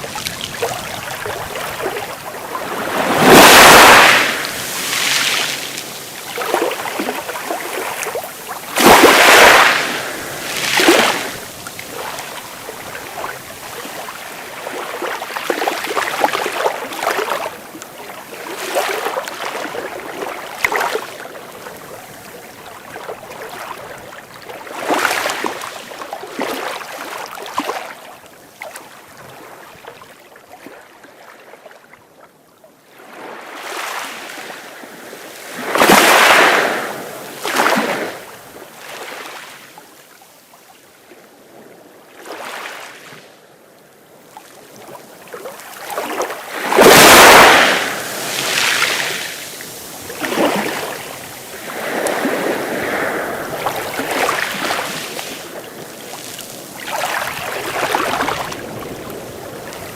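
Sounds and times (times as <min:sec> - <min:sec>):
sea waves breaking: 0:00.0 - 0:27.8, 0:33.0 - 0:39.7, 0:44.5 - 0:59.9.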